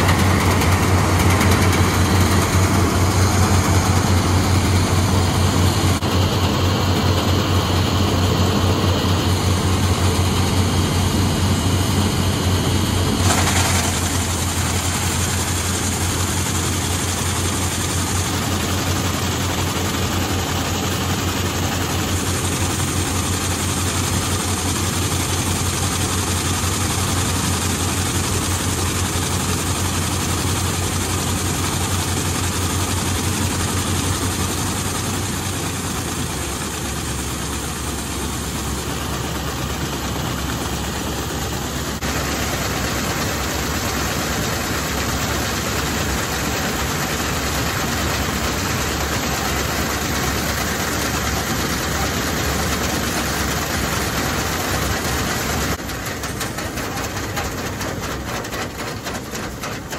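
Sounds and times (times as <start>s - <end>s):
grain pouring from auger: 0.0s - 59.9s
harvester engine humming: 0.0s - 59.9s.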